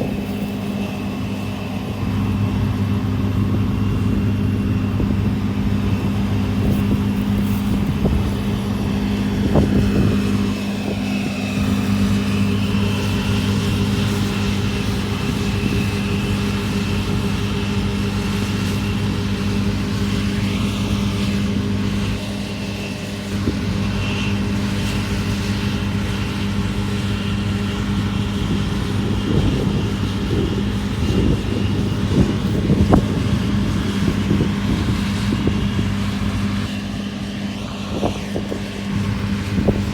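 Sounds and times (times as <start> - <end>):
farm machinery engine running: 0.0 - 39.9.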